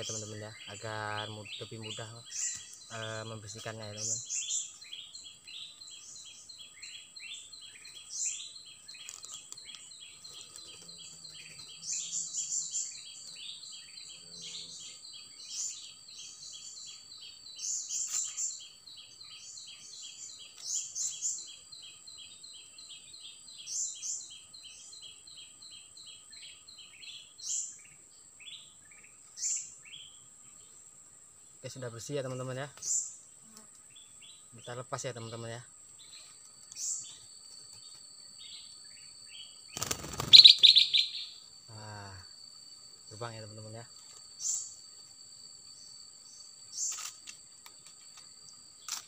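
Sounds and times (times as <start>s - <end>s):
insect drone: 0.0s - 49.0s
wild birds chirping: 0.0s - 49.0s.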